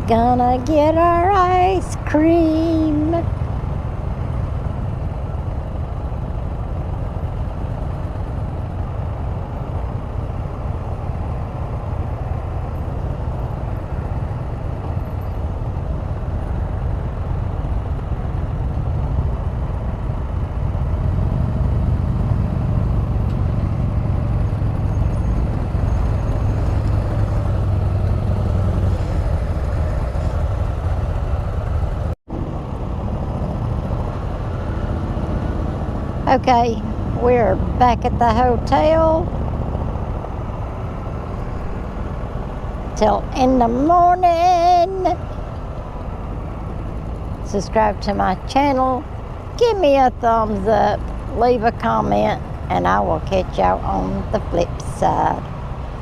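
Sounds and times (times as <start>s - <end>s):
engine wind and road rumble: 0.0s - 56.0s.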